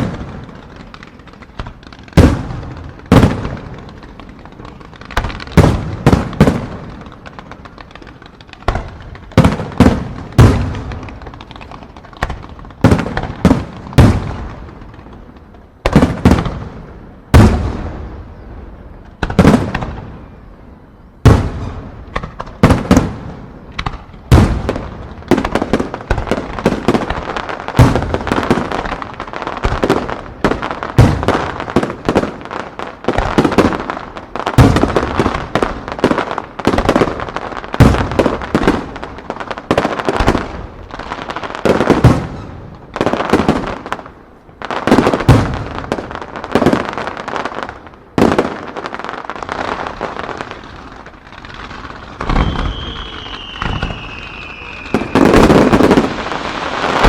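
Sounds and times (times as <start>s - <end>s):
firecrackers crackling: 0.0s - 57.0s
fireworks booming: 0.0s - 57.0s.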